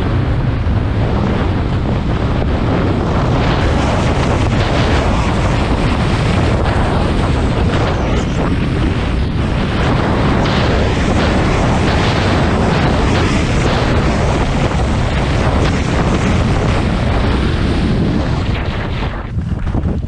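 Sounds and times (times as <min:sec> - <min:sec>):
wind rushing over microphone: 0:00.0 - 0:20.0
skis scraping over snow: 0:02.6 - 0:20.0.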